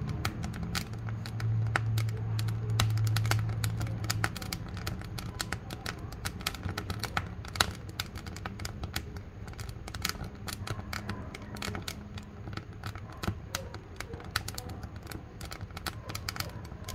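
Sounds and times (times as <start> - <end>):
low fire rumble: 0.0 - 16.9
wood fire crackling and popping: 0.0 - 16.9.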